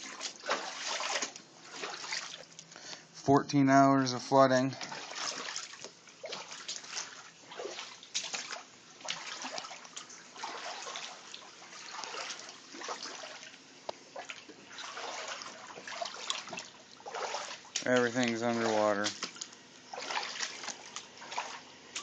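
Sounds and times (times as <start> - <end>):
feet wading through shallow water: 0.0 - 2.6, 4.8 - 22.0.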